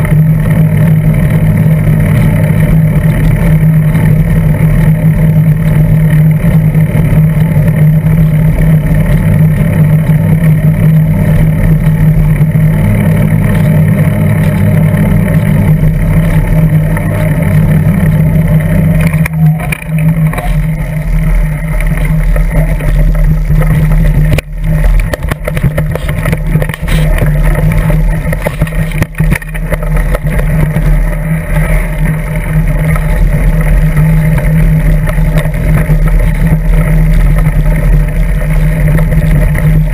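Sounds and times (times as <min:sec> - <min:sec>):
mountain bike rumbling: 0:00.0 - 0:39.9.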